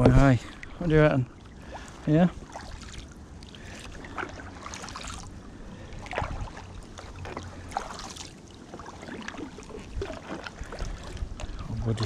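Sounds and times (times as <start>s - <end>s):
kayak paddle splashing: 0.0s - 12.0s.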